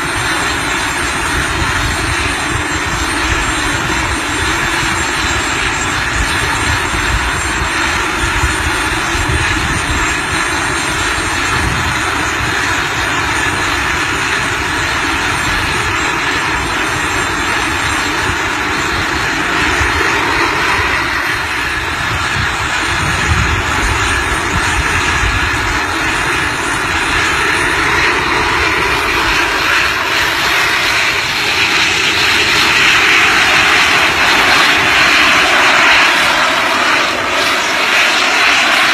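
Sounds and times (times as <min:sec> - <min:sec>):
aircraft engine noise: 0:00.0 - 0:38.9.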